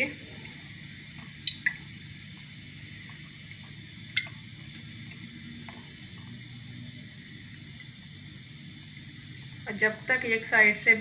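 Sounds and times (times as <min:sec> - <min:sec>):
faint oil sizzle: 0:00.0 - 0:11.0.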